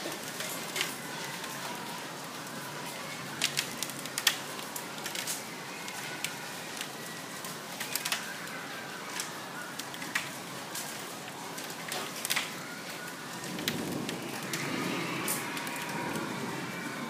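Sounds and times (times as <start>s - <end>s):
hailstones clicking on hard surfaces: 0.0s - 17.0s
heavy rain and hail hiss: 0.0s - 17.0s.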